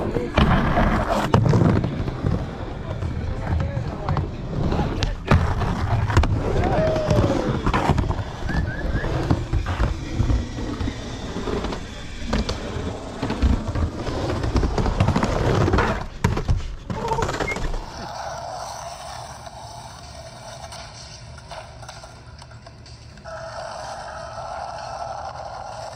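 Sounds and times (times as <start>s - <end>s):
skateboard wheels rumbling: 0.0s - 25.9s.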